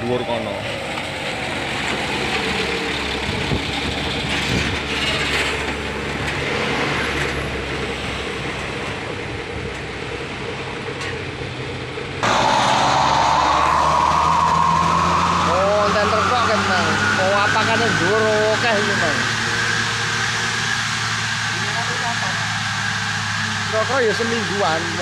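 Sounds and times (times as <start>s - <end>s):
truck diesel engine rumbling: 0.0s - 25.0s.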